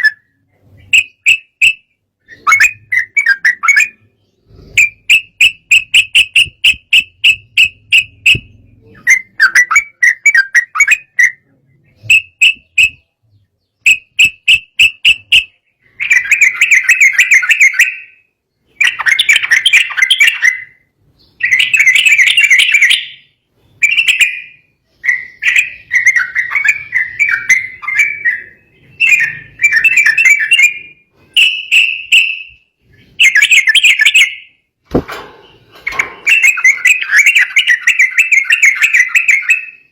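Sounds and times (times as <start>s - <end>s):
bird singing whistled phrases: 0.0s - 13.2s, 13.8s - 34.6s, 36.2s - 39.9s.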